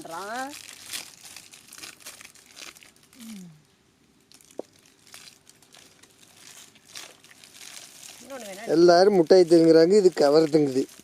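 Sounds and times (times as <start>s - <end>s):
plastic wrappers crinkling: 0.0s - 3.6s, 4.2s - 11.0s.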